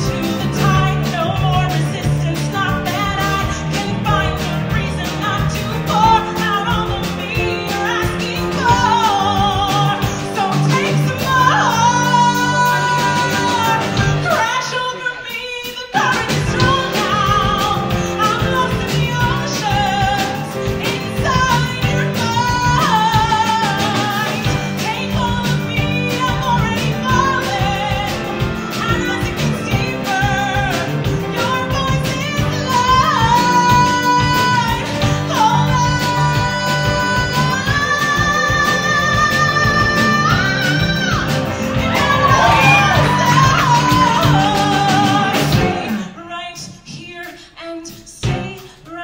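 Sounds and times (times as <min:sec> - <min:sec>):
live band playing: 0:00.0 - 0:49.0
woman singing with vibrato: 0:00.0 - 0:49.0.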